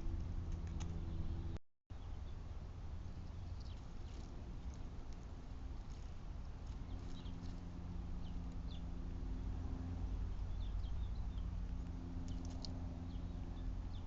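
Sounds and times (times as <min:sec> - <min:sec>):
steady low hum: 0:00.0 - 0:14.0
small birds chirping: 0:00.5 - 0:14.0.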